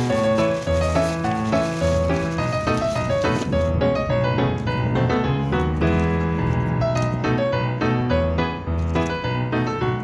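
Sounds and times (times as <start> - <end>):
piano tune: 0.0 - 10.0.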